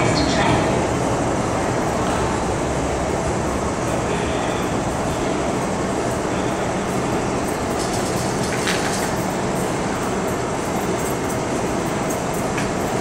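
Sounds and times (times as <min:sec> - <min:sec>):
train passing through station: 0:00.0 - 0:13.0.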